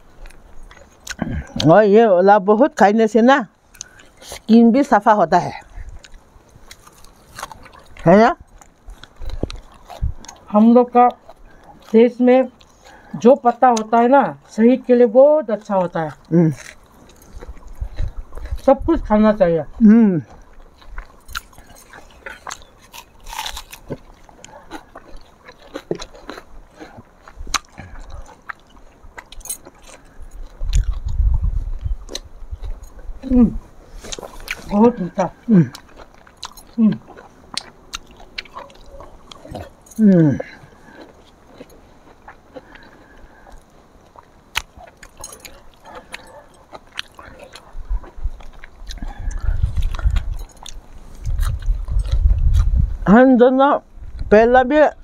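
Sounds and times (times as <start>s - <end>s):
people chewing raw vegetables: 0.0s - 55.0s.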